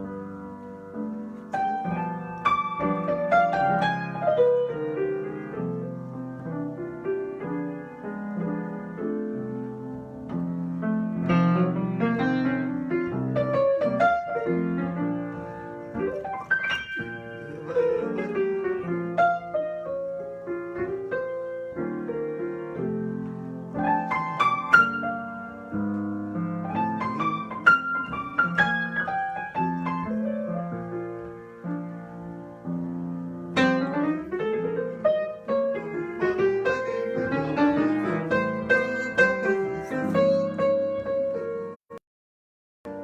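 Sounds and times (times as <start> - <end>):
solo piano improvisation: 0.0 - 41.9.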